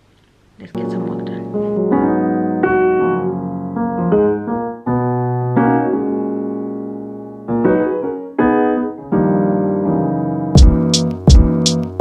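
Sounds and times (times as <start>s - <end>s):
slow piano chords: 0.7s - 12.0s.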